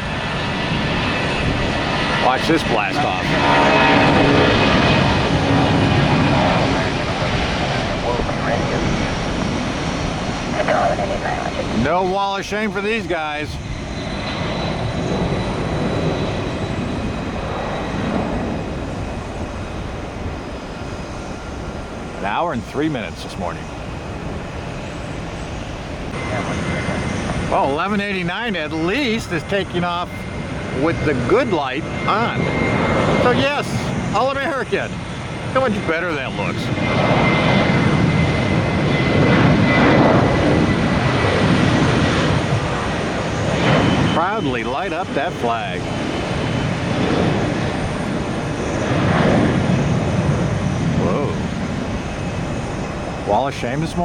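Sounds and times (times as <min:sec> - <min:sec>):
jet engine roar: 0:00.0 - 0:54.0
faint high whine: 0:05.6 - 0:54.0.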